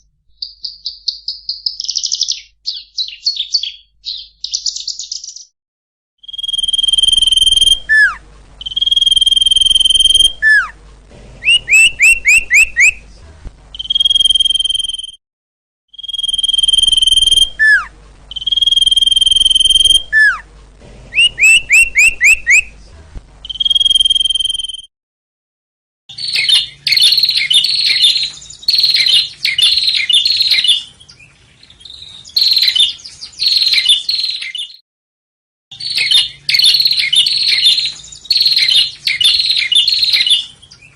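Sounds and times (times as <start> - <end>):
recorded songbird song: 0.0 - 5.5, 6.2 - 10.8, 11.4 - 15.2, 15.9 - 24.9, 26.1 - 34.8, 35.7 - 40.9
fast chattering birdsong: 0.4 - 5.5, 6.3 - 10.8, 11.4 - 15.0, 16.0 - 20.4, 21.1 - 24.2, 26.2 - 34.8, 35.8 - 40.9.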